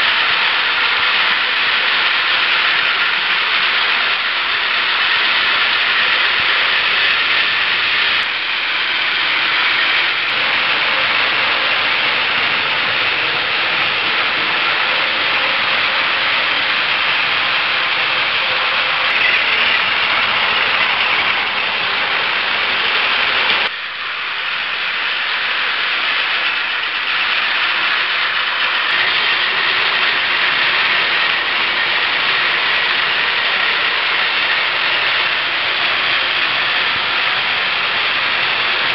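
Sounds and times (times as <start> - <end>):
toy trains whirring and rattling: 0.0 - 38.9.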